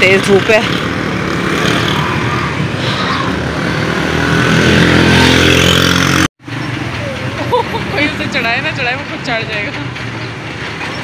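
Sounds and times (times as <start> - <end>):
cars and motorcycles passing: 0.0 - 11.0
vehicle engine approaching: 0.0 - 11.0.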